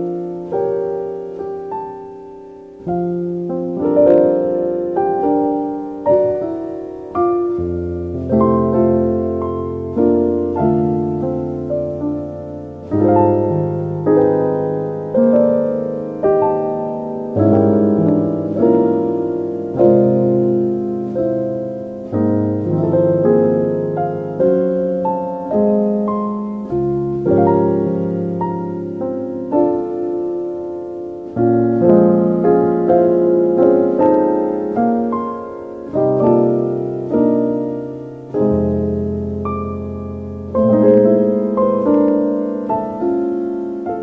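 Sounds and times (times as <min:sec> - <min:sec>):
gentle solo piano music: 0:00.0 - 0:44.0.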